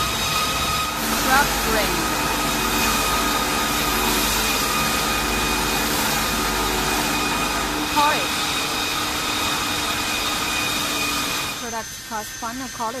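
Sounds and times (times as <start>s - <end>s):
machinery low hum: 0.0s - 13.0s
machinery whining tones: 0.0s - 13.0s.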